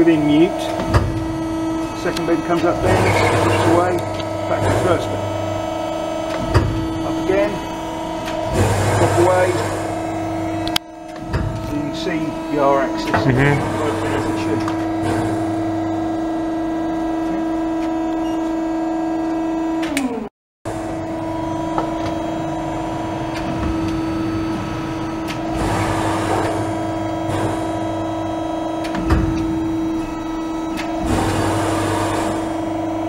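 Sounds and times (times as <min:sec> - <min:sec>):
hydraulic machine hum: 0:00.0 - 0:33.0.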